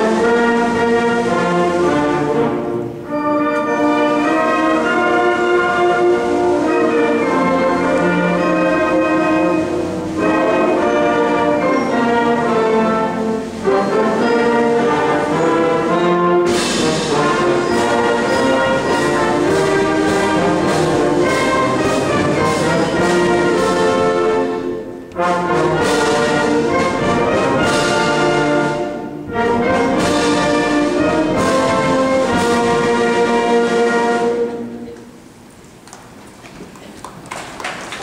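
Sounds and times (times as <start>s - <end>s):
brass band playing chords: 0.0s - 35.4s.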